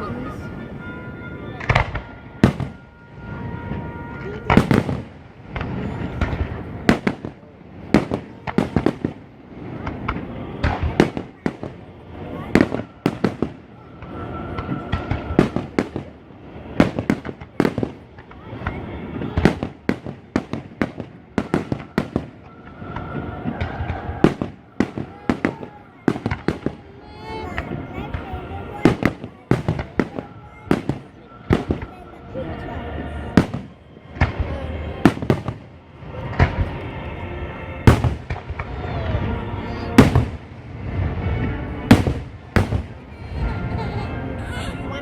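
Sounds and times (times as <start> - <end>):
fireworks bangs: 0.0 - 45.0.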